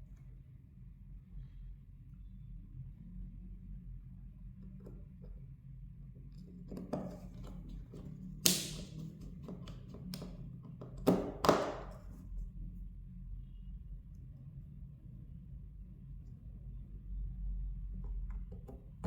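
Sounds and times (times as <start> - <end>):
faint low hum: 0.0 - 11.2, 11.8 - 19.0.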